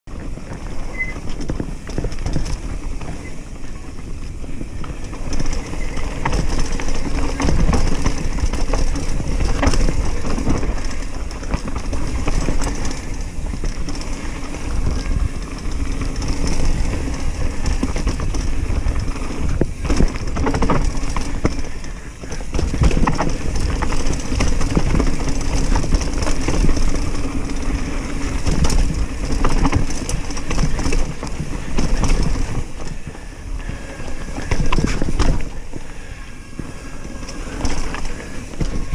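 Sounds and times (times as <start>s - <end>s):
bike rattling and knocking: 0.1s - 38.9s
tyres rumbling over dirt: 0.1s - 38.9s.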